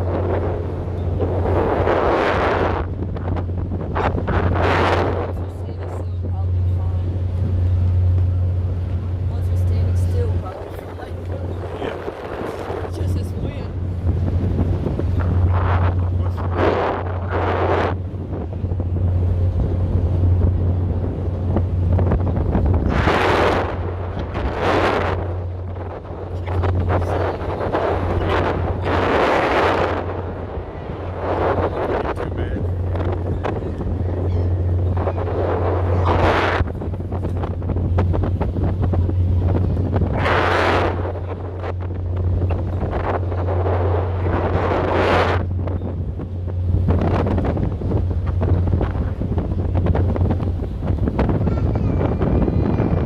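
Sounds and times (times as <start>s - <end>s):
boat engine drone: 0.0s - 53.0s
wind buffeting microphone: 0.0s - 53.0s.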